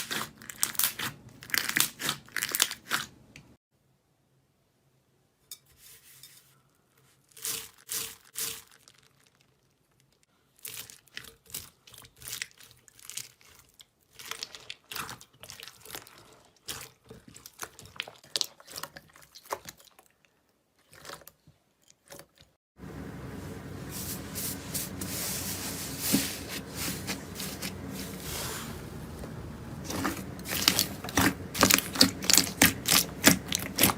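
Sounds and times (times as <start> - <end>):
slime crackling and squelching: 0.0 - 3.2, 7.2 - 22.6, 24.1 - 33.9.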